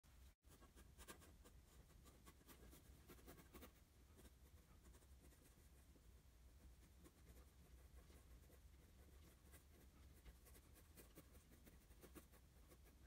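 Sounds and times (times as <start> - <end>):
pencil scratching on paper: 0.4 - 5.9, 6.6 - 13.0.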